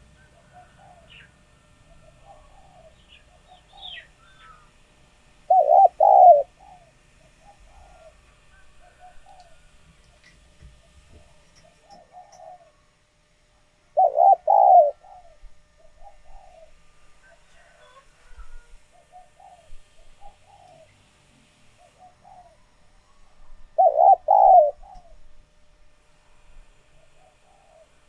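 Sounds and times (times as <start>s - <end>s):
dove cooing: 0.0s - 4.7s, 5.4s - 12.8s, 13.9s - 21.1s, 21.8s - 25.4s, 26.9s - 28.0s.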